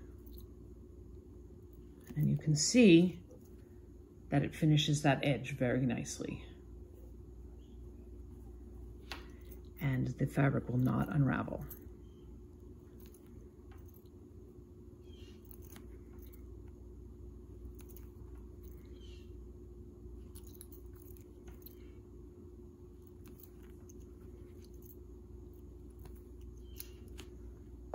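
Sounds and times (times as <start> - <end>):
low hum: 0.0 - 27.9.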